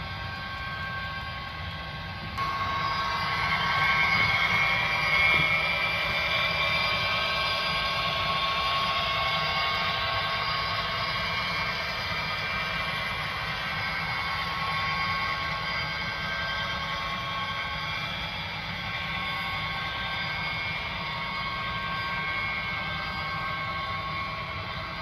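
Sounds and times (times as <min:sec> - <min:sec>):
model locomotive whine and hiss: 0:00.0 - 0:25.0.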